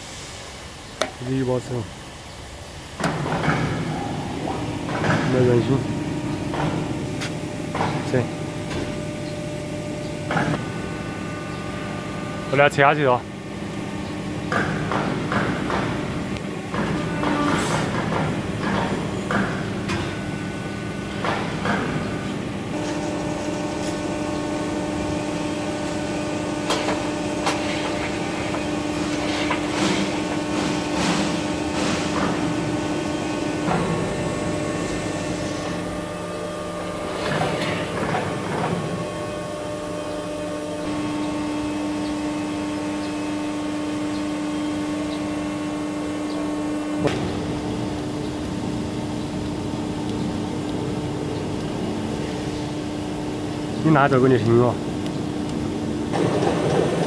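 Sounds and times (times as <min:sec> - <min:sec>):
pump motor humming: 0:00.0 - 0:57.0.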